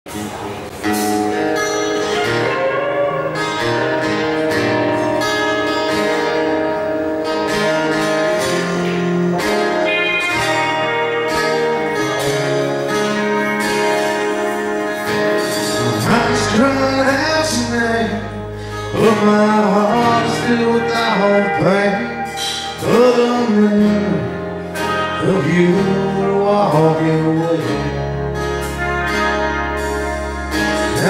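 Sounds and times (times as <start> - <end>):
country band instrumental: 0.1 - 31.0
guitar chords: 0.1 - 31.0.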